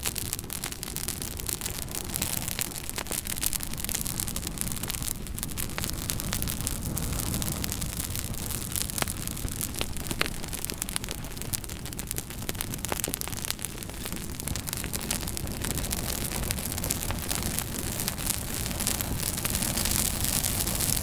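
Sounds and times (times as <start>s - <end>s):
fire crackling and popping: 0.0s - 21.0s
flames rumbling and hissing: 0.0s - 21.0s.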